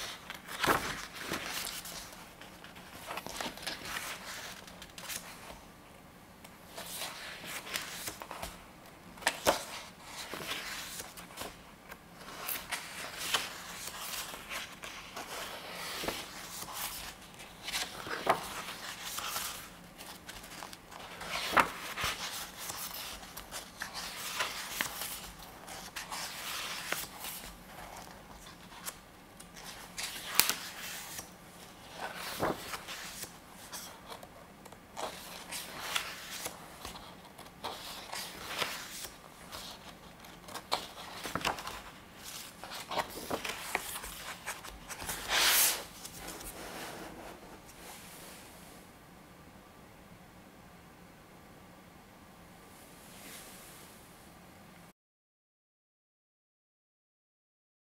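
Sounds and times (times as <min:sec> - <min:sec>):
book pages turning: 0:00.0 - 0:05.6, 0:06.4 - 0:48.1.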